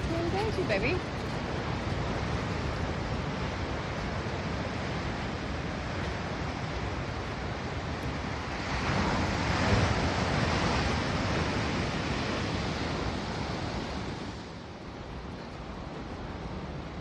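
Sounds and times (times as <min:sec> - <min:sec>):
ocean wave breaking: 0:00.0 - 0:17.0
wind on microphone: 0:00.0 - 0:17.0.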